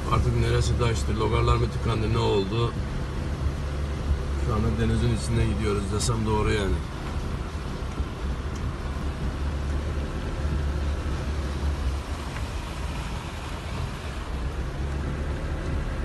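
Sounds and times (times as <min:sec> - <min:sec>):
car engine rumble: 0:00.0 - 0:16.0
rushing water: 0:00.0 - 0:16.0.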